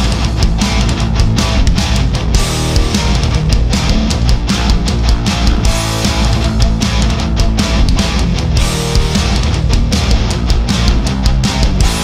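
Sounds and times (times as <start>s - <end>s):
bass guitar: 0.0s - 12.0s
distorted electric guitars: 0.0s - 12.0s
drums and cymbal hits: 0.0s - 12.0s.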